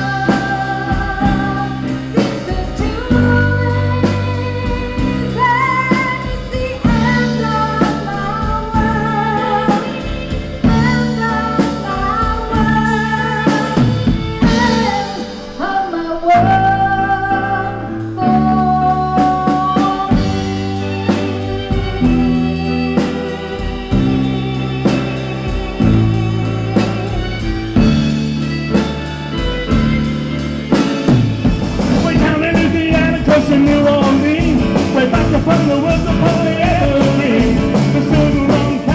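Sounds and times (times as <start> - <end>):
walking bass line: 0.0 - 15.2, 16.4 - 38.9
woman singing: 0.0 - 24.6, 31.9 - 38.9
drums: 0.0 - 38.9
violin: 0.0 - 38.9.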